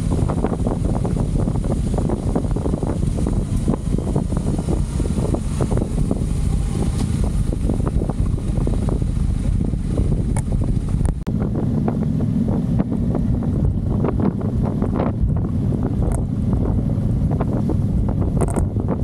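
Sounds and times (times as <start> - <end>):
motorcycle engine rumble: 0.0 - 19.0
wind buffeting microphone: 0.0 - 19.0.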